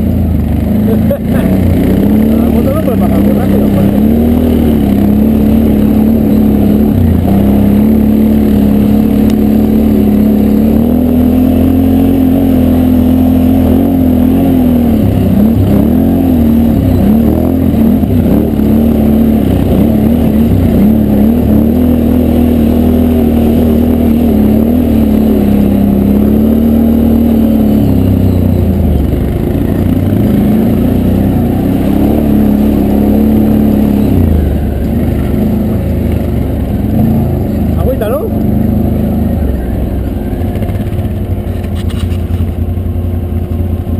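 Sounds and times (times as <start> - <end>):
quad engine revving: 0.0 - 43.9.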